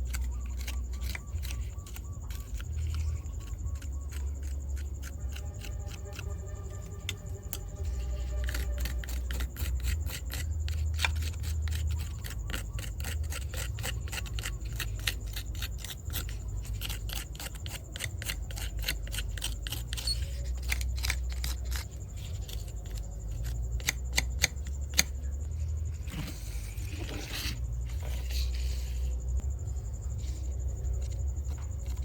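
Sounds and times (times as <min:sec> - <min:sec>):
light clicks and scratches: 0:00.0 - 0:32.0
low steady hum: 0:00.0 - 0:32.0.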